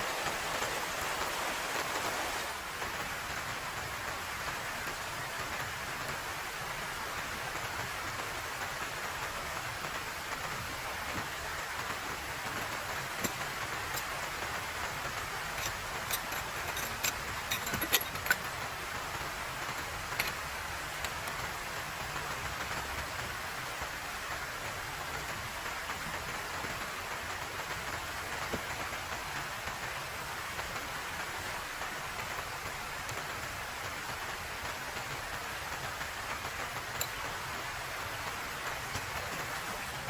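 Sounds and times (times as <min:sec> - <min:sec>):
rain falling: 0:00.0 - 0:40.0.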